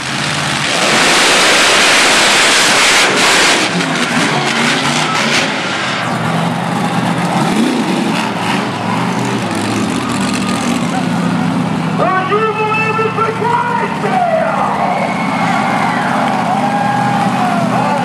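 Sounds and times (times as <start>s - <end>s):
monster truck engines at full throttle: 0.0s - 18.0s.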